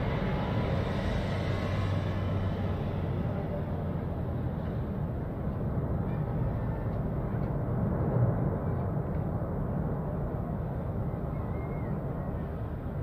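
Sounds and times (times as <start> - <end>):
volcano rumbling: 0.0 - 13.0.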